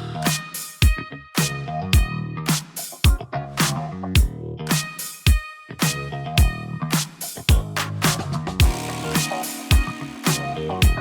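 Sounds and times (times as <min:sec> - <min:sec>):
funk music with guitar: 0:00.0 - 0:11.0.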